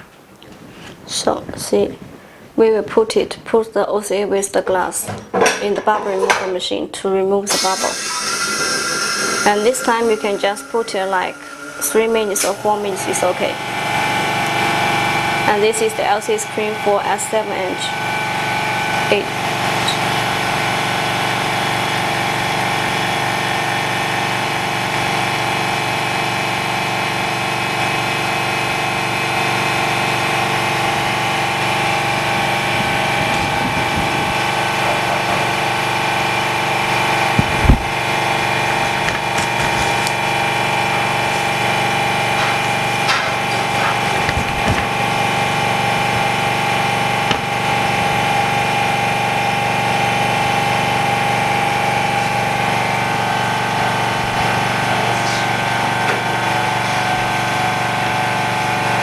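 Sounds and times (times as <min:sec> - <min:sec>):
machine humming: 0:07.5 - 0:59.0.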